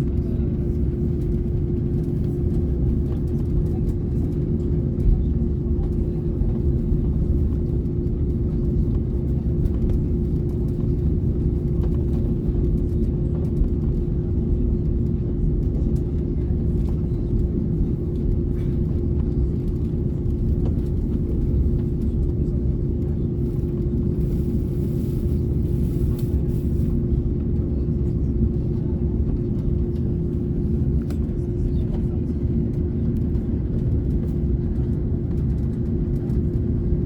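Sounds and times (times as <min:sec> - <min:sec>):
airliner cabin rumble and hum: 0:00.0 - 0:37.0.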